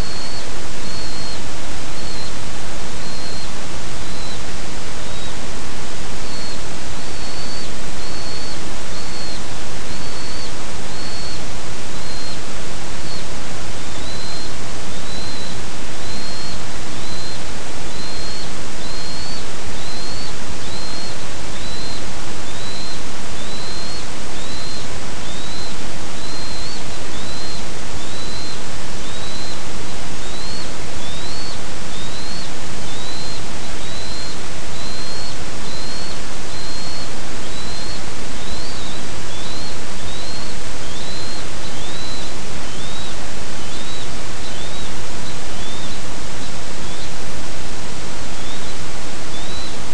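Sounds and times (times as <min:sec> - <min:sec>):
eagle calling: 0:00.0 - 0:02.4, 0:03.0 - 0:05.4, 0:06.2 - 0:47.2
steady loud hiss: 0:00.0 - 0:49.9.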